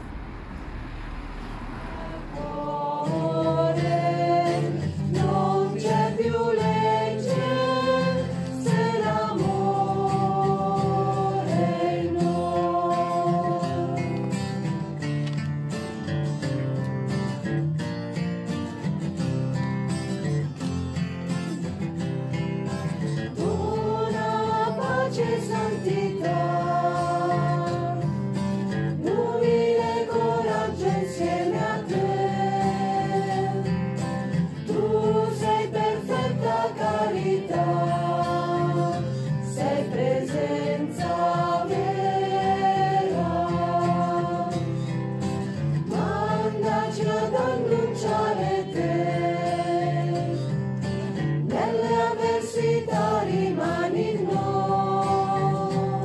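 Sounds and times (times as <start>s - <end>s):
choir singing slow phrases: 0.0s - 15.2s, 23.0s - 56.0s.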